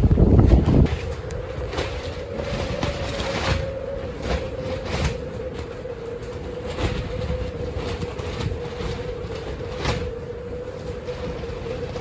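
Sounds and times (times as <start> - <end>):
high wind rumble: 0.0 - 12.0.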